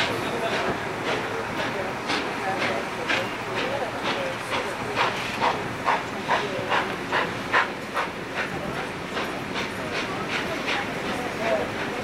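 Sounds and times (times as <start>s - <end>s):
steam locomotive exhaust chuffing: 0.0s - 12.0s.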